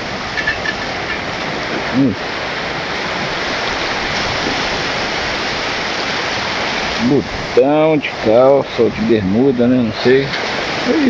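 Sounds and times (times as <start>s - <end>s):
waves breaking on sand: 0.0s - 11.0s.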